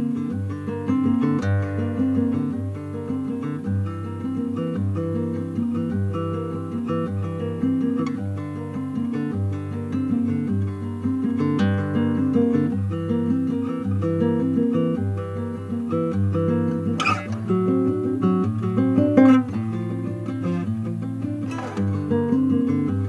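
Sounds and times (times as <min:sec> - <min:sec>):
acoustic guitar picking: 0:00.0 - 0:23.0
guitar strummed strokes: 0:00.0 - 0:23.0.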